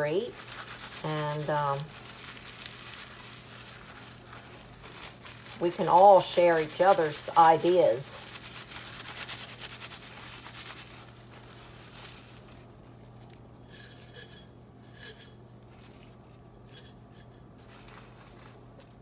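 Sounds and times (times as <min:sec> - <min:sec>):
paper towel rustling and crinkling: 0:00.0 - 0:13.6, 0:15.4 - 0:19.0.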